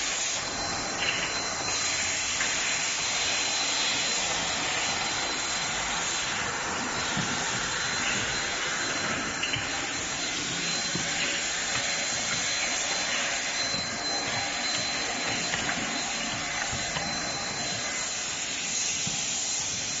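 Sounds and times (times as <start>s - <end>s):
packing machine whirring: 0.0s - 19.2s
high machine whine: 0.0s - 20.0s.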